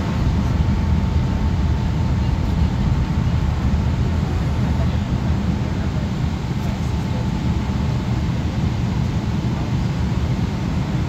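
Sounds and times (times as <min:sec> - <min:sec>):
low rumble of engines and air: 0:00.0 - 0:11.0.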